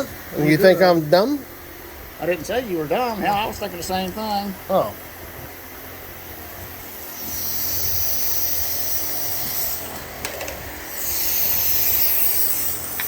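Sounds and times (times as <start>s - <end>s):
shop tool hissing whine: 0.0s - 13.0s.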